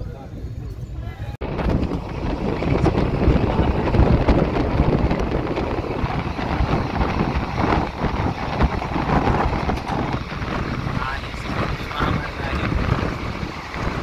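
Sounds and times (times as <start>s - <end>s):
train rumbling and rattling: 0.0s - 14.0s
wind on microphone: 0.0s - 14.0s.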